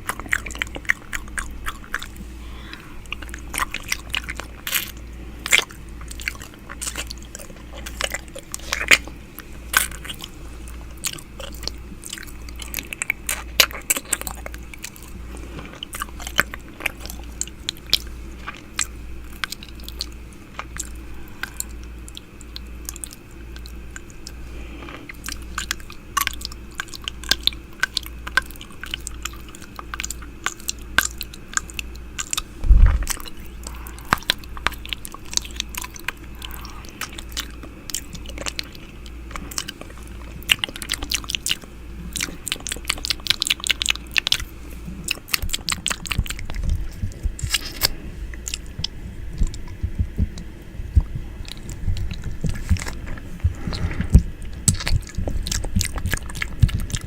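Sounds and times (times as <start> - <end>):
wet mouth sounds: 0.0 - 57.0.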